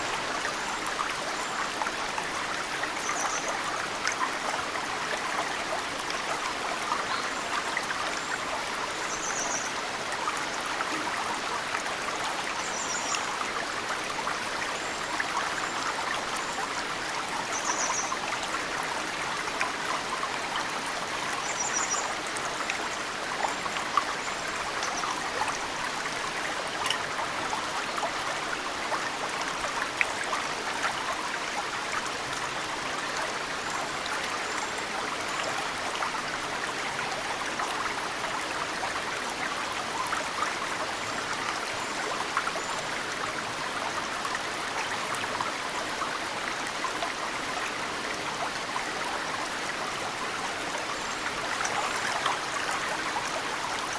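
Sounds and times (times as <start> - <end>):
stream flowing: 0.0 - 53.9.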